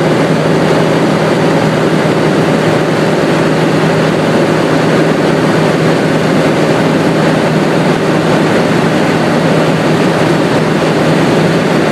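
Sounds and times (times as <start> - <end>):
light plane engine in cabin: 0.0 - 11.9.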